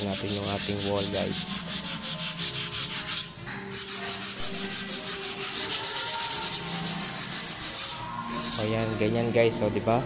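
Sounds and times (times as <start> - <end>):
sandpaper rubbing on wall: 0.0 - 9.3.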